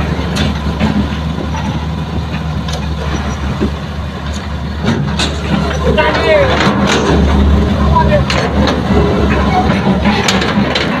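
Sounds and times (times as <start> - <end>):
diesel machinery droning: 0.0 - 11.0.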